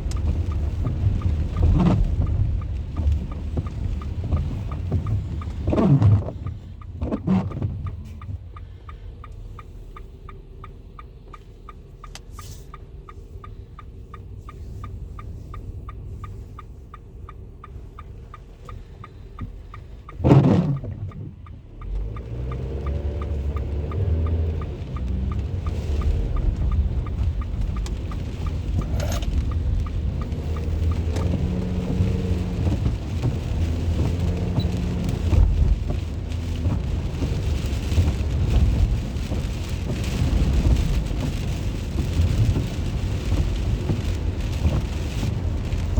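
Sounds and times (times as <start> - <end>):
light ticking: 0.0 - 45.9
low traffic rumble: 0.0 - 45.9
rain: 0.0 - 45.9.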